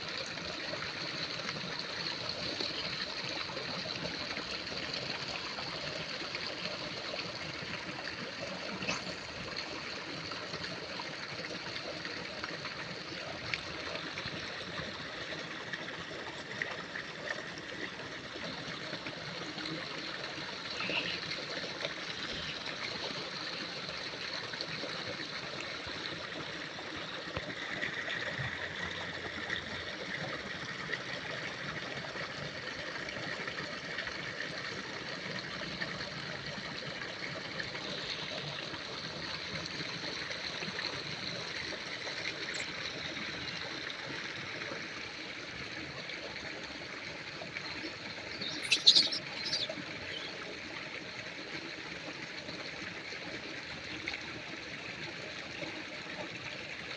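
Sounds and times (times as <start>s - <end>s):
stream trickling and rushing: 0.0s - 56.9s.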